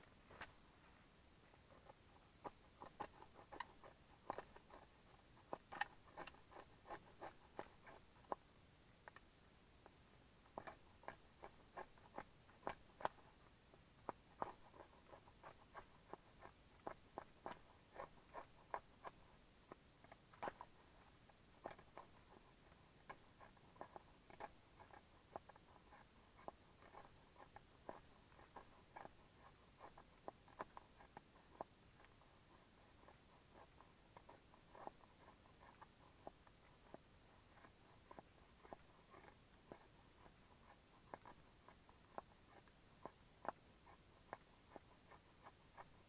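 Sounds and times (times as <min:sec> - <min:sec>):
knife shaving wood: 0:01.5 - 0:46.0.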